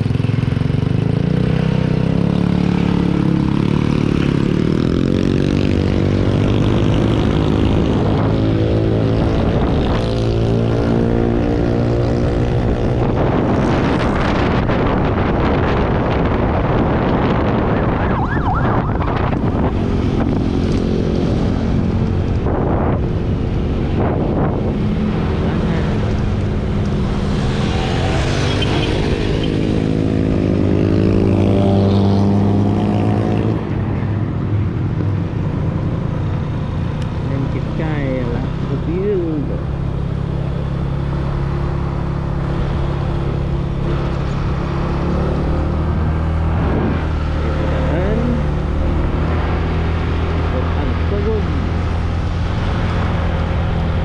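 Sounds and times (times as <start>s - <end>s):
vehicle engines idling and revving: 0.0s - 54.0s.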